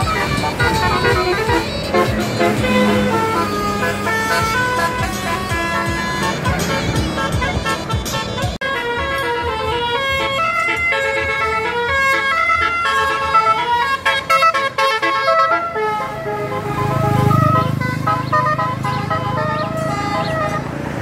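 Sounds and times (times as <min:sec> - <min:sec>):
low engine rumble: 0:00.0 - 0:21.0
multi-tone bus horn tune: 0:00.0 - 0:21.0.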